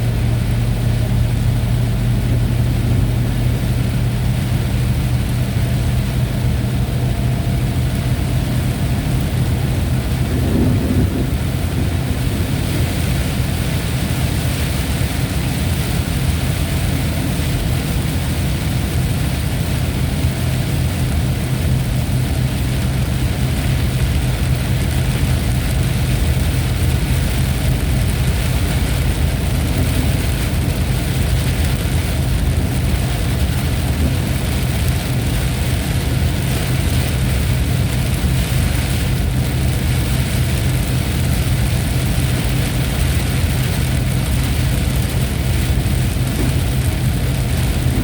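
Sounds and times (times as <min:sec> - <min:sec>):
low rumble: 0:00.0 - 0:48.0
steady rain: 0:00.0 - 0:48.0.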